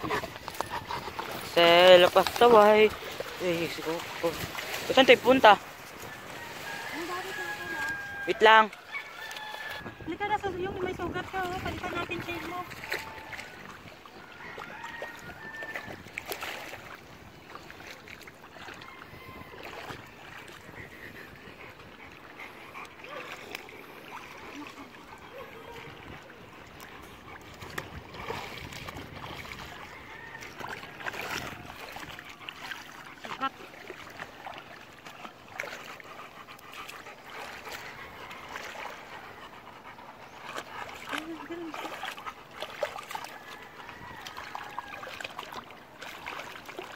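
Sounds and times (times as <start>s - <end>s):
shallow water sloshing: 0.0s - 46.9s.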